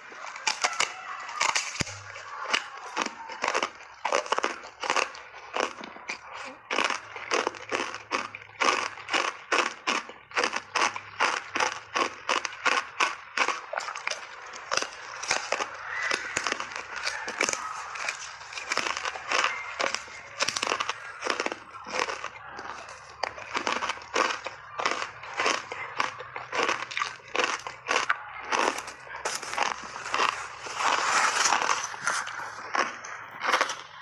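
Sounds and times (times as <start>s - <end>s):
ice being crunched and chewed: 0.0s - 34.0s.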